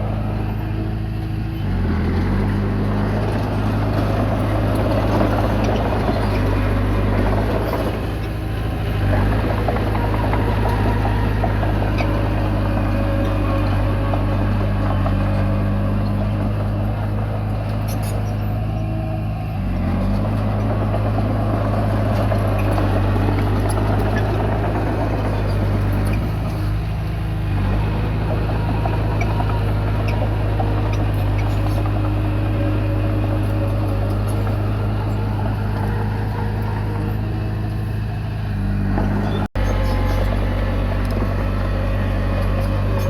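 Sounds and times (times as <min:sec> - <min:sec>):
bulldozer diesel engine running: 0:00.0 - 0:43.0.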